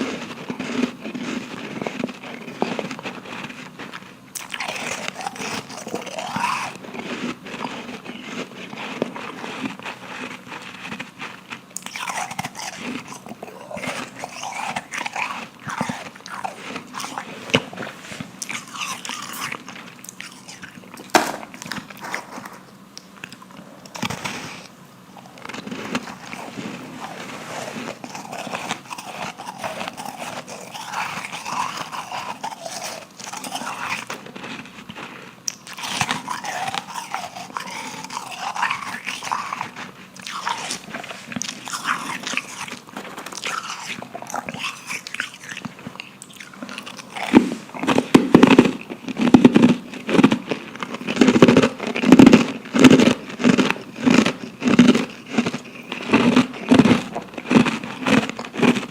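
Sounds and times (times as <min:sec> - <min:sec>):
chewing ice crunching: 0:00.0 - 0:58.9.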